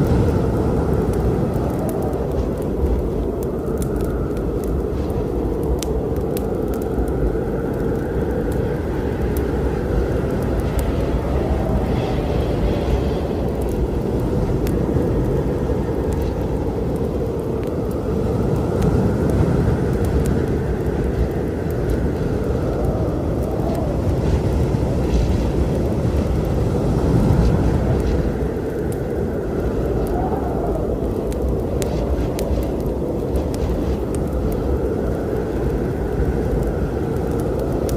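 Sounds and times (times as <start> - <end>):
storm wind rumbling: 0.0 - 37.9
wood fire crackling: 0.0 - 37.9.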